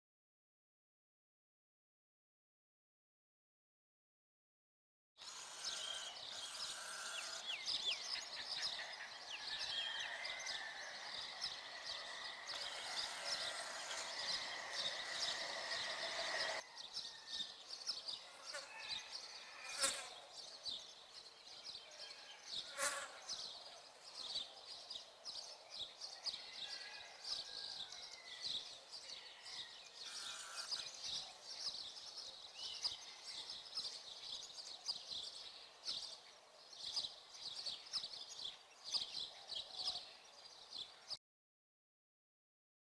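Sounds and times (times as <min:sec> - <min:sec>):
small birds chirping: 0:05.2 - 0:26.9, 0:27.6 - 0:41.2.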